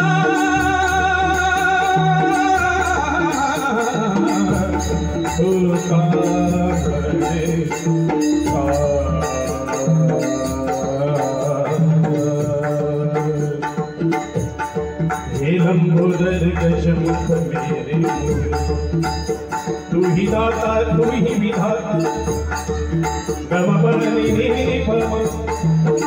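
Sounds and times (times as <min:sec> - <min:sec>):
hand drum beat: 0:00.0 - 0:26.0
person singing devotional song: 0:00.0 - 0:26.0.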